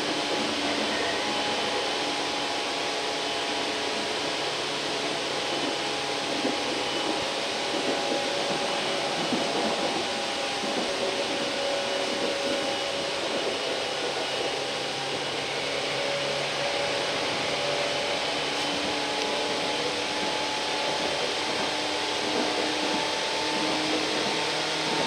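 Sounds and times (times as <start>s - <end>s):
electric train running: 0.0s - 25.0s
whining tones: 0.0s - 25.0s.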